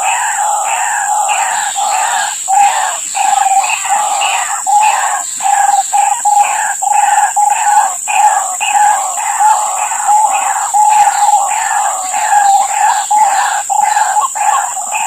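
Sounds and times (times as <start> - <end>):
waterhens calling repeated notes: 0.0 - 15.0.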